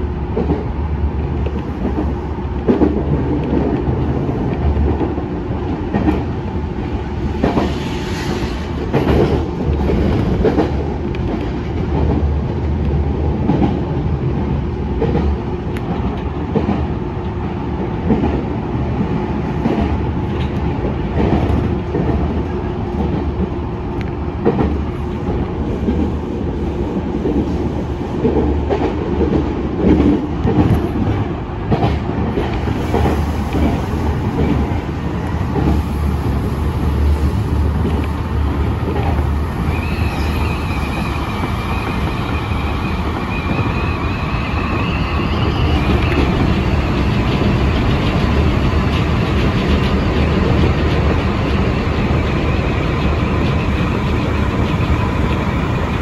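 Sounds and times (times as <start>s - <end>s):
electric train rumble: 0.0s - 56.0s
high whine of train: 0.0s - 56.0s.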